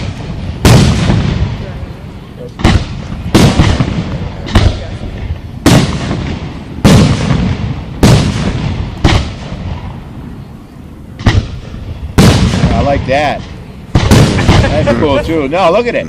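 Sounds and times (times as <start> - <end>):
fireworks booming: 0.0 - 15.8.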